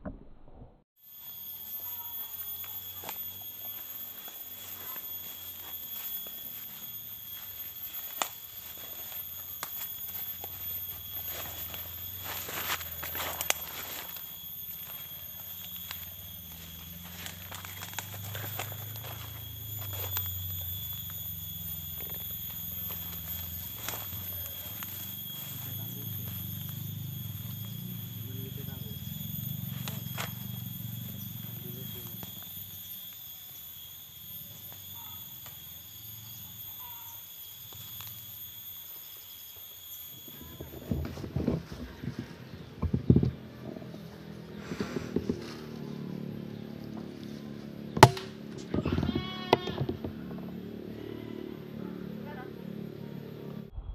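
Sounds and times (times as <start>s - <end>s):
high-pitched insect drone: 1.0s - 53.9s
low hum: 2.1s - 39.0s, 40.0s - 53.9s.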